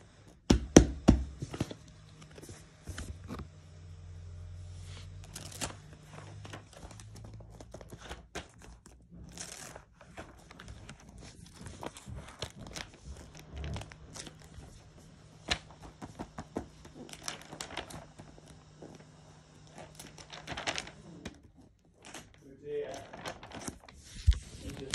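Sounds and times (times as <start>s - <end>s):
paper rustling and crinkling: 1.3s - 3.5s, 4.7s - 24.9s.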